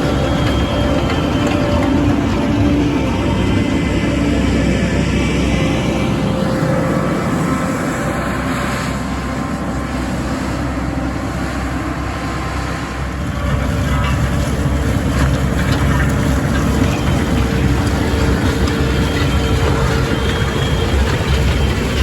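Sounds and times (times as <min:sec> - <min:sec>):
diesel engine drone: 0:00.0 - 0:22.0.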